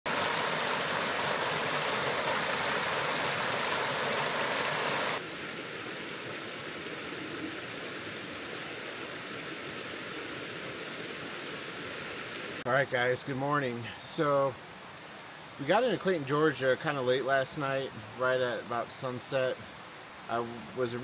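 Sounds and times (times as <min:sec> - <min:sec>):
creek rushing over stones: 0:00.1 - 0:21.0.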